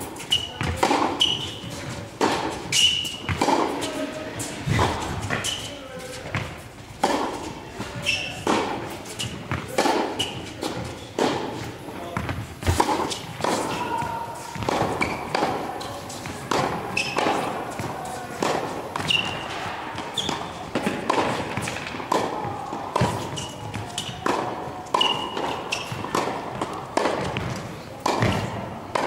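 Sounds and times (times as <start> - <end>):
racket hitting tennis ball: 0.0 - 29.0
tennis balls bouncing on court: 0.0 - 29.0.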